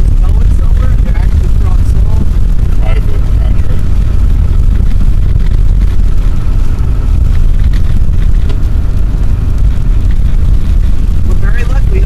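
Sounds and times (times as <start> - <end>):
vehicle rumble from inside cabin: 0.0 - 12.0.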